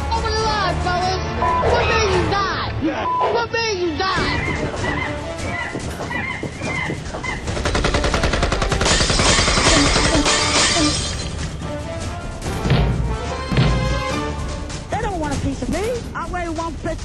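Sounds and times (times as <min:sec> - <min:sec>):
music: 0:00.0 - 0:17.0.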